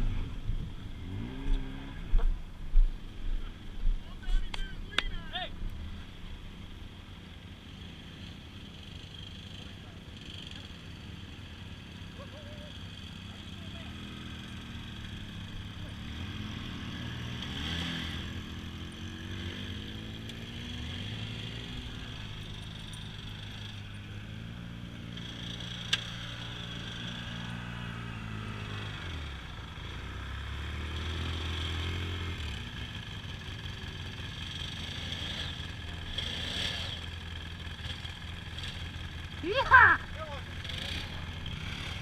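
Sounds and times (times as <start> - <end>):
engine running and revving: 0.0 - 5.1, 5.7 - 42.0.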